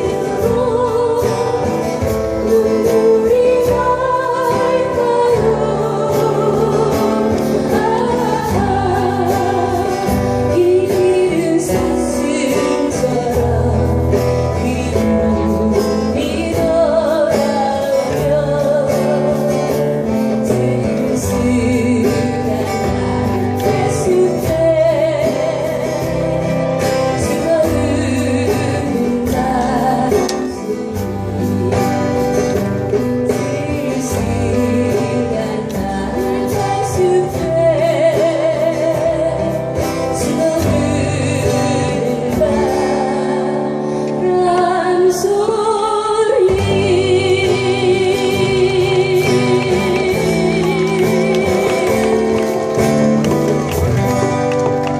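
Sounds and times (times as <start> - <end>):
guitar: 0.0 - 54.9
person singing with vibrato: 0.0 - 54.9.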